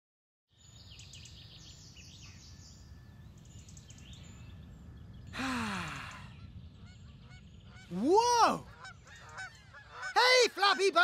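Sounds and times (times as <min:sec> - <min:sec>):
small birds chirping: 0:00.5 - 0:11.0.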